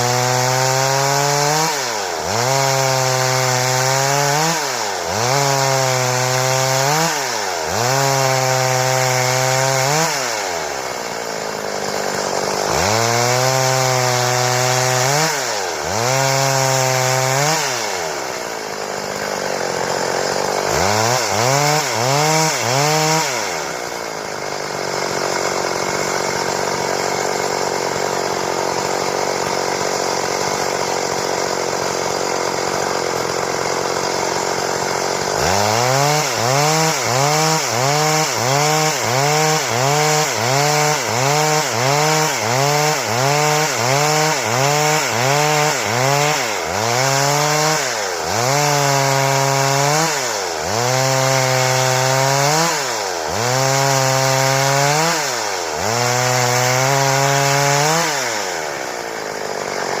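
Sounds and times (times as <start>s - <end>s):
chainsaw cutting wood: 0.0s - 60.0s.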